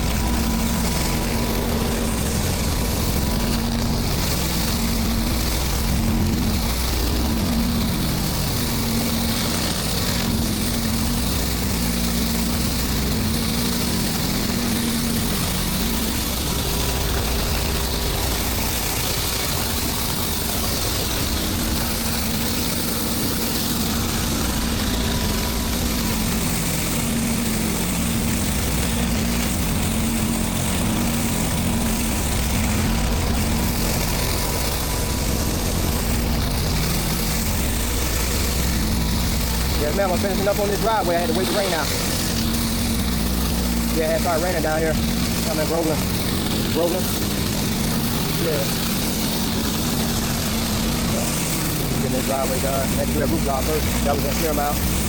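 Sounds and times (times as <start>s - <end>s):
hiss of water spray: 0.0s - 55.0s
pressure washer engine running: 0.0s - 55.0s.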